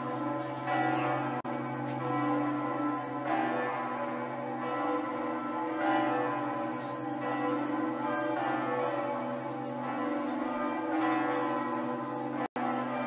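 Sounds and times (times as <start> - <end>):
bells ringing: 0.0 - 13.0.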